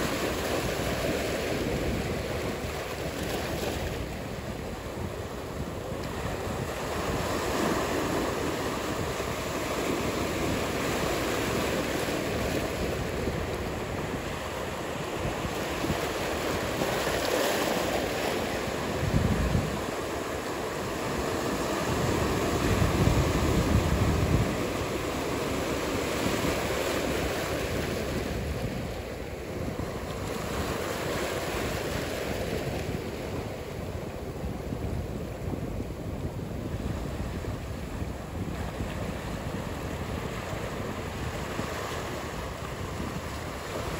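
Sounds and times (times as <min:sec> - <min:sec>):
ocean surf washing: 0:00.0 - 0:43.9
wind buffeting microphone: 0:00.0 - 0:43.9.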